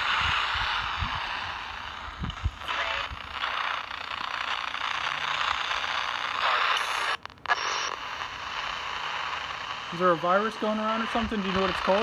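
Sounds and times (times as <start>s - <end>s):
choppy radio static hissing: 0.0s - 12.0s.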